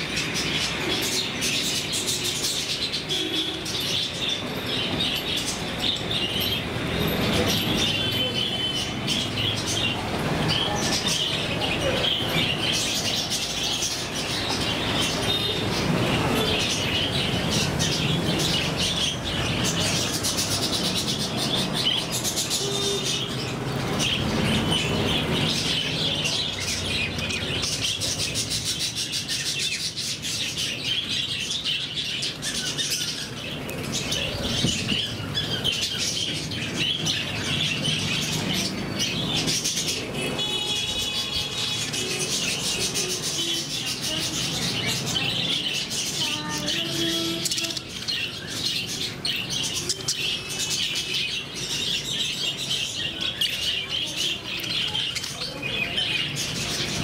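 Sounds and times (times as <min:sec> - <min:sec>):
flock of budgerigars chattering: 0:00.0 - 0:57.0.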